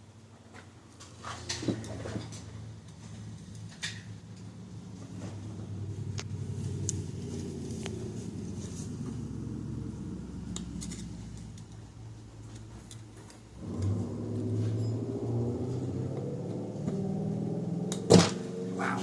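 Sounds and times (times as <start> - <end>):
vehicle engine running: 0.7 - 19.0.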